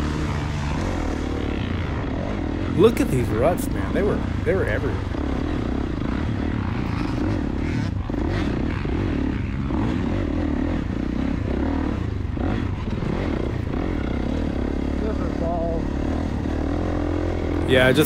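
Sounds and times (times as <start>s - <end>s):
dirt bike engine under throttle: 0.0s - 18.0s.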